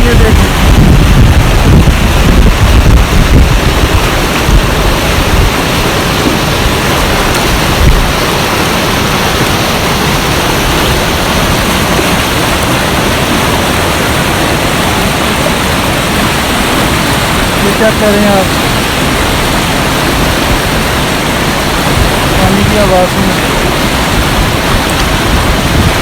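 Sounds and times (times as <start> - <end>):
stream rushing: 0.0 - 26.0
wind rumble on microphone: 0.0 - 26.0.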